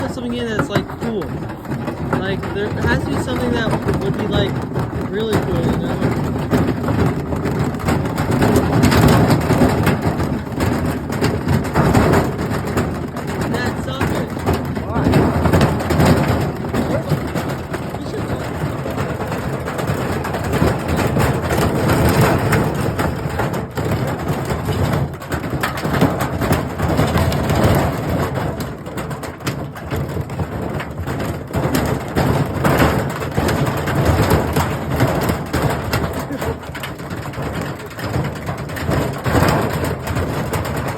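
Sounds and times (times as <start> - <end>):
objects knocking against drum: 0.0 - 40.9
washing machine rumbling: 0.0 - 40.9.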